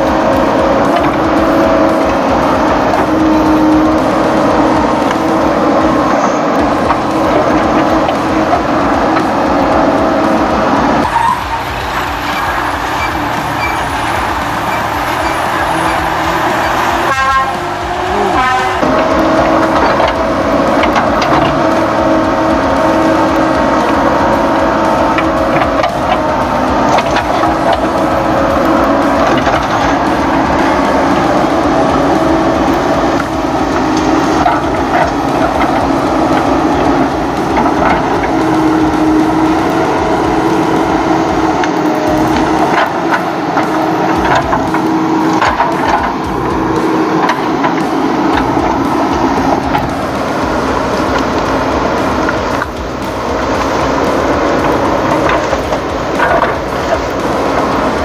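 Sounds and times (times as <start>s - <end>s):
tracks clicking through soil: 0.0s - 58.0s
vehicle engine noise: 0.0s - 58.0s.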